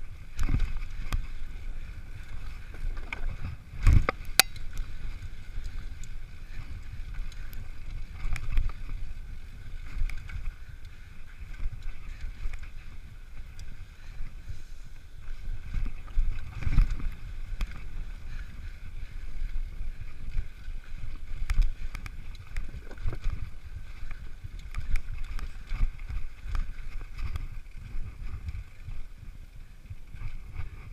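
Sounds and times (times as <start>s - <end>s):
bike knocking and rattling: 0.0s - 30.9s
tyres rumbling on dirt trail: 0.0s - 30.9s.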